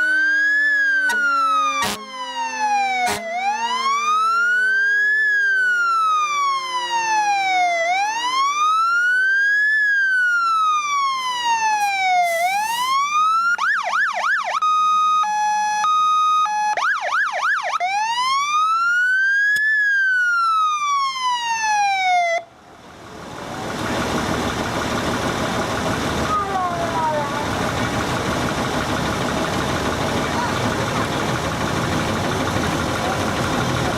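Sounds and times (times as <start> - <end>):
fire engine electronic siren: 0.0 - 33.9.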